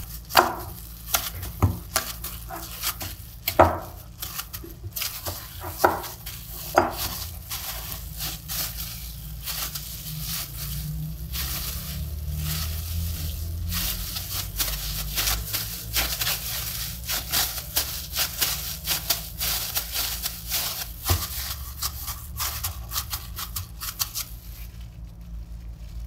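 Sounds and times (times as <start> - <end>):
dough squishing: 0.0 - 26.0
plastic gloves crinkling: 0.0 - 26.0.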